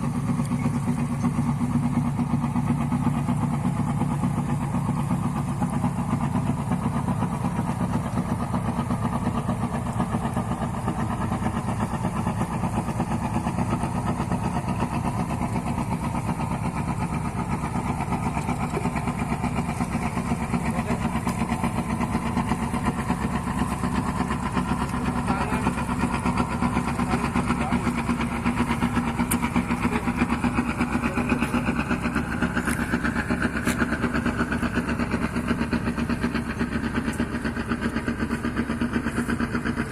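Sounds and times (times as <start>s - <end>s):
boat engine pulsing: 0.0s - 39.9s.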